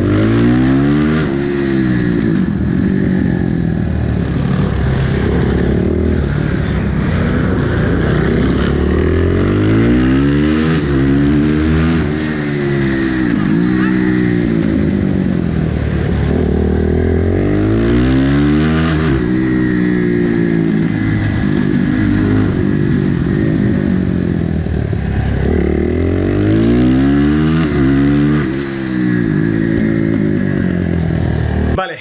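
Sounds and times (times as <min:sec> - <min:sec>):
motorcycle engine accelerating: 0:00.0 - 0:31.8.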